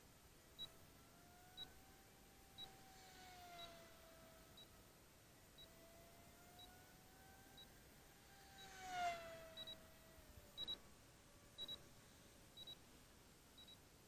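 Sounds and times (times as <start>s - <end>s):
faint rising and falling tone: 0.4s - 12.8s.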